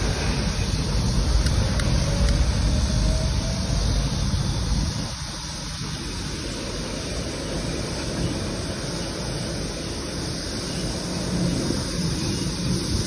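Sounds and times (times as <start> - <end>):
road and traffic hiss: 0.0 - 13.0
wind buffeting microphone: 0.0 - 13.0.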